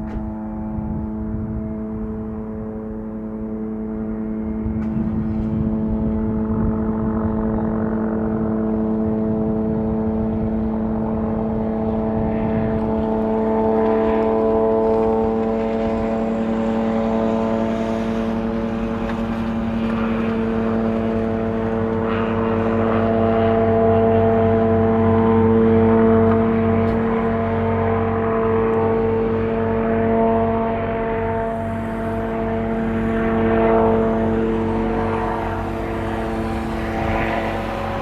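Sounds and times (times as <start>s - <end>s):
helicopter buzzing drone: 0.0s - 38.0s.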